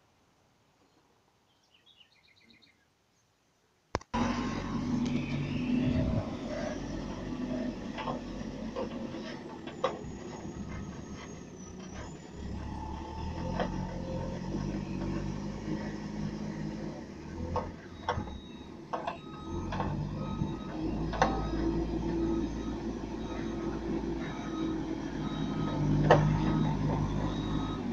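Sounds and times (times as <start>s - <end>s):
diesel engine running: 4.2s - 27.9s
loader bucket clanking: 4.2s - 27.9s.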